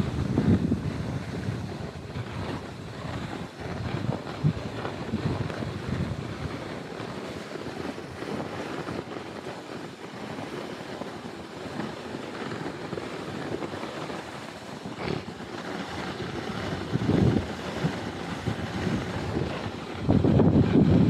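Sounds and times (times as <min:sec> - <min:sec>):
sled rumbling on track: 0:00.0 - 0:21.0
wind buffeting microphone: 0:00.0 - 0:21.0.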